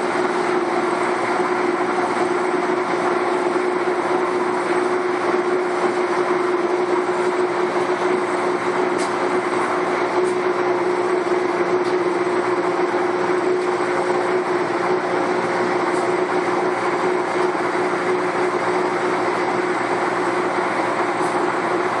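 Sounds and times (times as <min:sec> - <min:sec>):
air handling unit running: 0:00.0 - 0:22.0.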